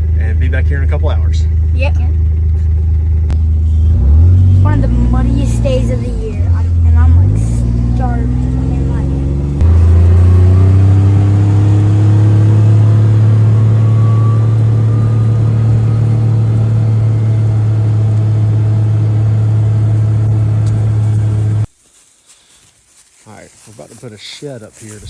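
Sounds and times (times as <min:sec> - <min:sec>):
vehicle engine and road drone: 0:00.0 - 0:21.8.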